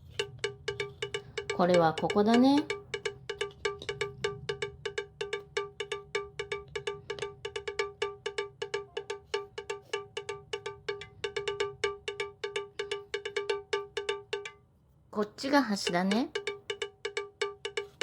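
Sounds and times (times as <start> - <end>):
bell-like plucked music loop: 0.0 - 14.6, 15.2 - 18.0.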